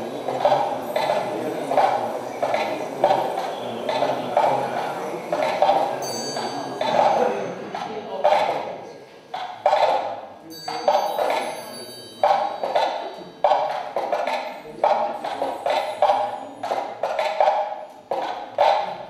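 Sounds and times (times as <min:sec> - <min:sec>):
sharp percussive knocks: 0:00.3 - 0:04.6, 0:05.3 - 0:08.6, 0:10.7 - 0:19.0.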